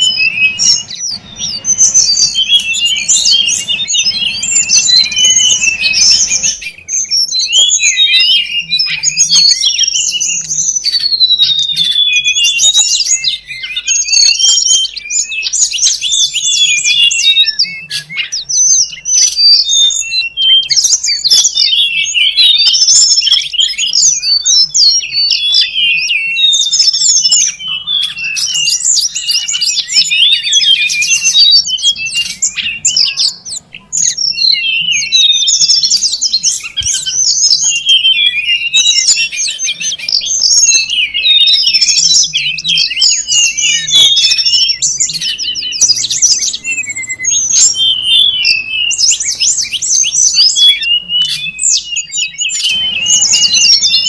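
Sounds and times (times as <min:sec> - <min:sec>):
birds chirping and twittering: 0:00.0 - 0:54.0.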